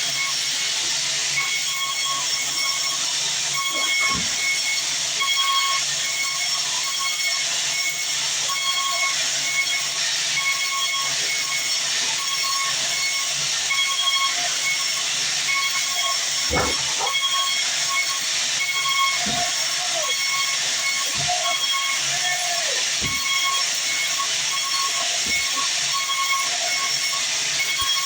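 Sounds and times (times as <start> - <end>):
band saw cutting log: 0.0 - 28.0.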